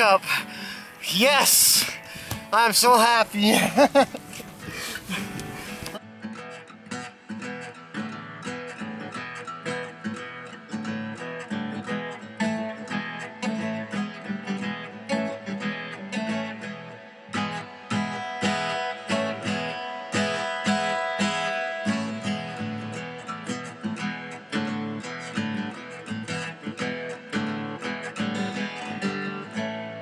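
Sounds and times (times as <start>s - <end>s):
strummed guitar tune: 0.0s - 30.0s.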